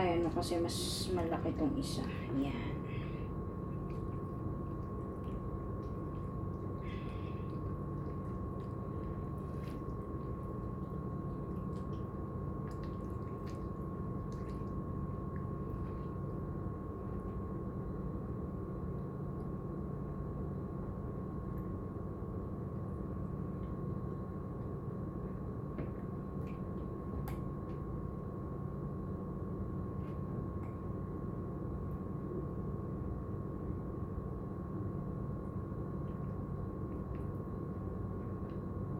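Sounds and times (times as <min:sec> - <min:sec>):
background hum: 0:00.0 - 0:38.9.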